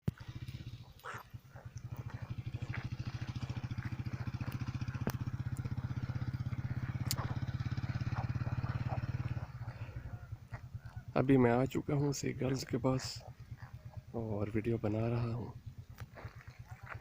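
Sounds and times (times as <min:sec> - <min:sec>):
engine putter: 0:00.0 - 0:17.0.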